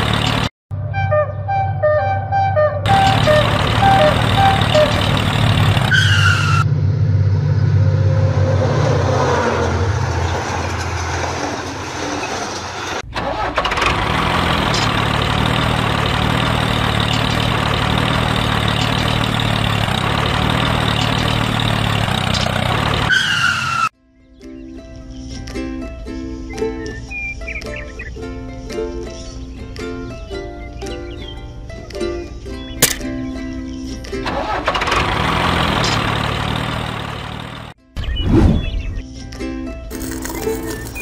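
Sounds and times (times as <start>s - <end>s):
tractor engine humming: 0.0s - 23.9s, 28.7s - 37.8s, 39.1s - 41.0s.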